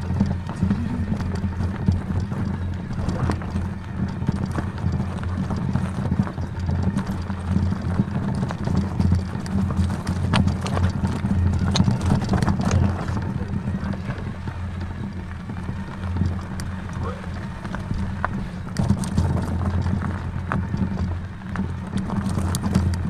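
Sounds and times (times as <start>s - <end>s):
knocks and rattles from bumps: 0.0s - 23.0s
vehicle engine rumble: 0.0s - 23.0s.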